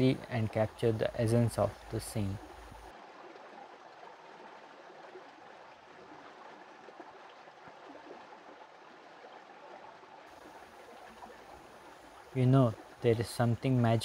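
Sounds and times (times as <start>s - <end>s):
stream flowing over rocks: 0.0s - 14.0s.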